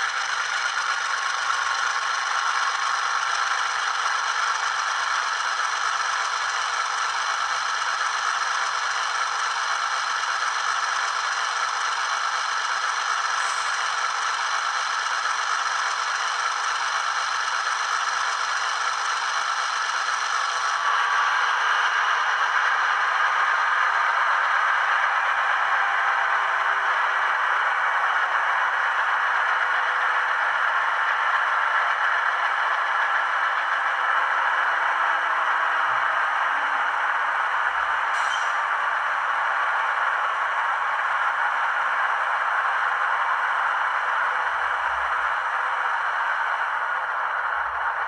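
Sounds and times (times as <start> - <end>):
tinny diesel engine through speaker: 0.0 - 48.0.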